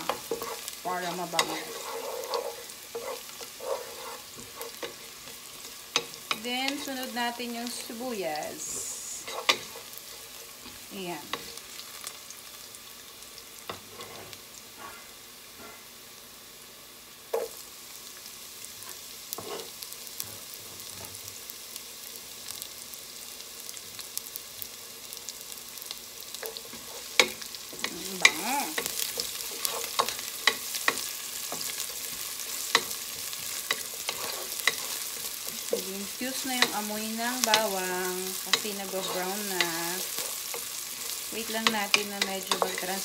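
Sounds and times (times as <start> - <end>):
onions sizzling in oil: 0.0 - 43.0.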